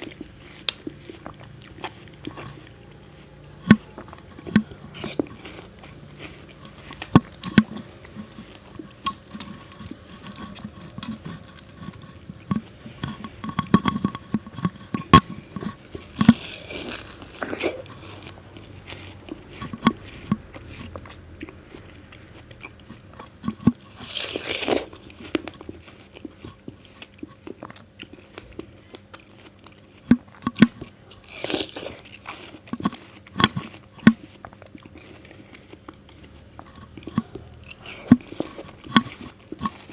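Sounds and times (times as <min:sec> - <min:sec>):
crunching: 0:00.0 - 0:39.9
watermelon bites and chewing: 0:00.0 - 0:39.9.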